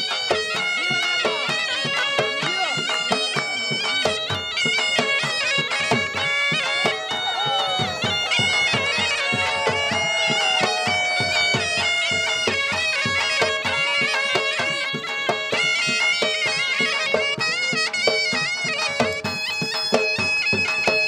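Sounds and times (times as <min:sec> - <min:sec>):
fast dhol drumming: 0:00.0 - 0:21.0
shehnai folk melody: 0:00.0 - 0:21.0.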